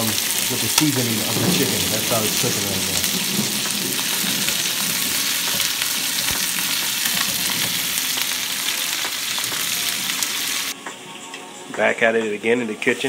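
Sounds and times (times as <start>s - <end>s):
chicken wings sizzling in a pan: 0.0s - 10.8s.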